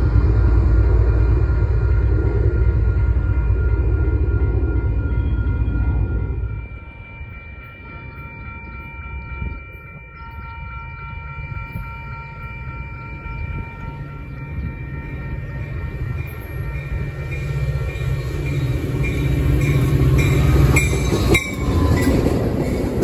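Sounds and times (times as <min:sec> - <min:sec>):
diesel train rumbling: 0:00.0 - 0:23.0
steady high tones: 0:00.6 - 0:23.0.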